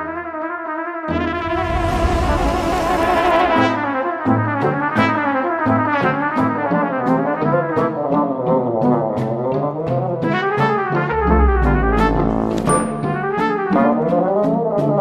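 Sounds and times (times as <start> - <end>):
brass melody: 0.0 - 15.0.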